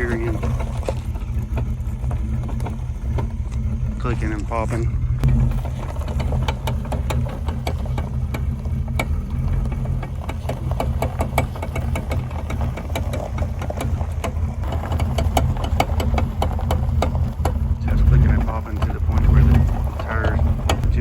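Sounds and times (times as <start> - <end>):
car engine idling: 0.0 - 21.0
differential clicking and popping: 0.0 - 21.0.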